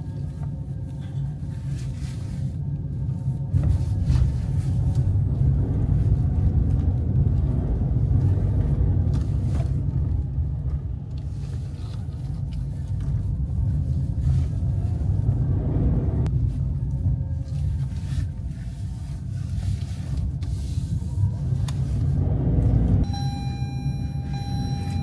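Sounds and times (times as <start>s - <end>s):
car interior rumble: 0.0s - 25.0s.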